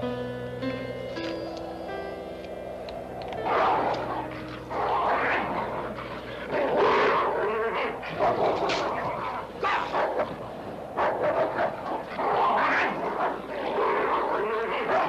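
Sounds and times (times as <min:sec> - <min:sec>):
wolves snarling and yelping: 0:01.4 - 0:15.0.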